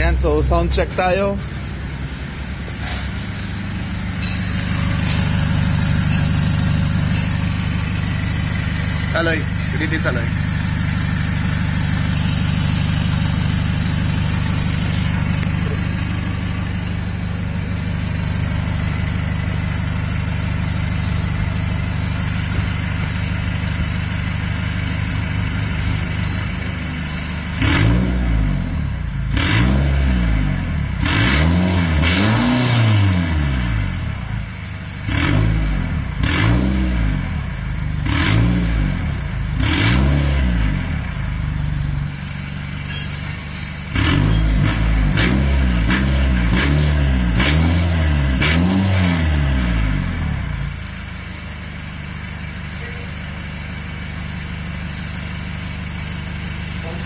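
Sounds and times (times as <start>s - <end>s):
truck engine idling and revving: 0.0s - 57.0s.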